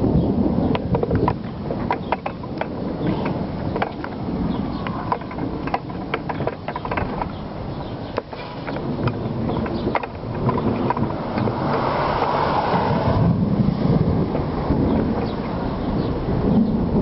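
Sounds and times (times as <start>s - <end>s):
thunder rumbling: 0.0s - 17.0s
wind buffeting microphone: 0.0s - 17.0s.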